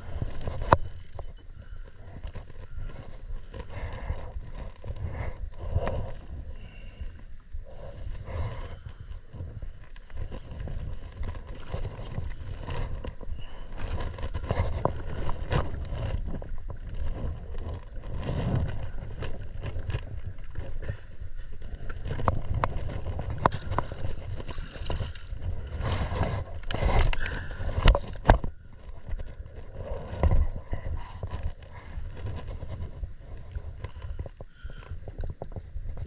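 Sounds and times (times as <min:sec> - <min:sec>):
clicks and knocks of fishing gear: 0:00.0 - 0:06.2, 0:08.1 - 0:36.0
wind rumbling on microphone: 0:00.0 - 0:36.0.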